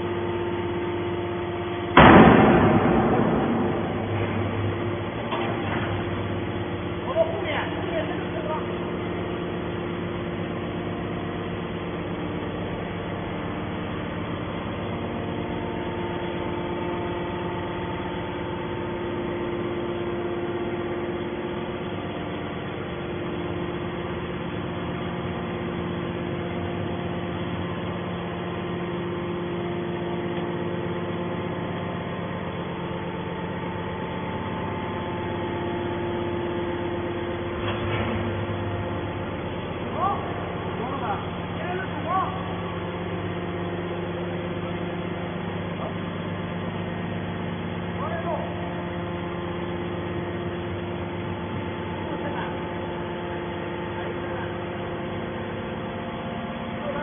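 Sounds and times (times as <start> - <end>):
hydraulic machine hum: 0.0 - 57.0.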